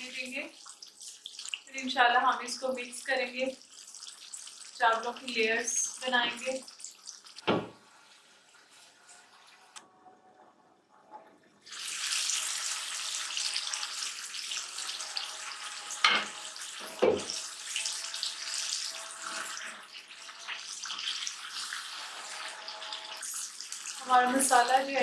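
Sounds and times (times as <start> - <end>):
food sizzling in a pan: 0.0 - 9.7, 11.6 - 25.0.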